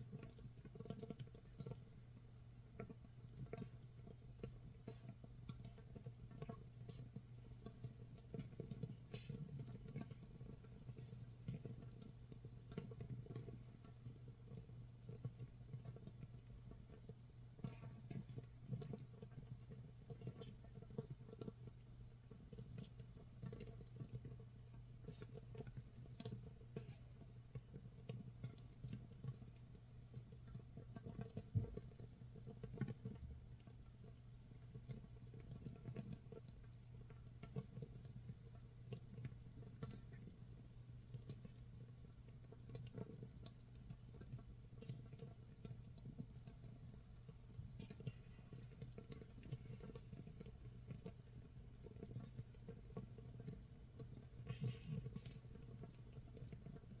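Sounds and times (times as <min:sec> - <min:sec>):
fermenting bubbles popping: 0:02.7 - 0:57.0.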